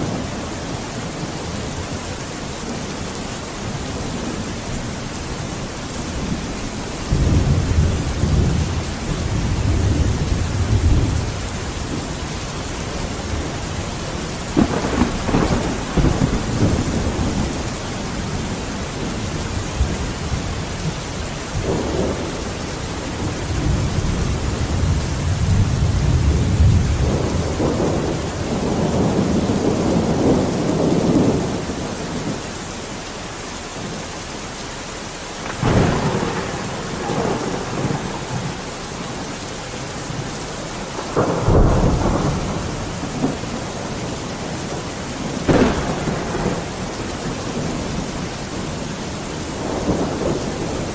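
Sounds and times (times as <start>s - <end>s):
heavy rain: 0.0s - 50.9s
rolling thunder: 3.6s - 32.4s, 35.4s - 50.9s.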